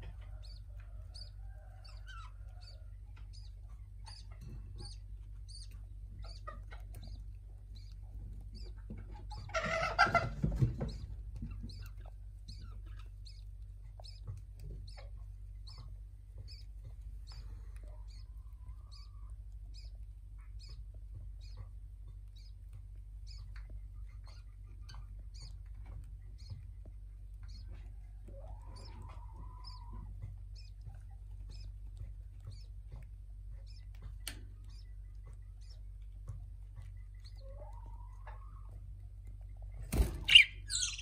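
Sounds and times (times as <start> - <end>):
budgerigars chirping: 0.3 - 21.7, 22.3 - 22.6, 23.2 - 27.8, 28.4 - 35.9, 39.5 - 41.0.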